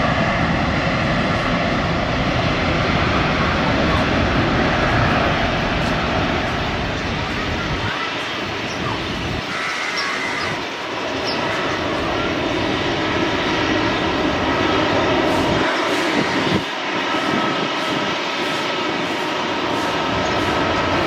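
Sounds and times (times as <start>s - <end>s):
faint engine whine: 0.0s - 21.0s
jet engines running: 0.0s - 21.0s.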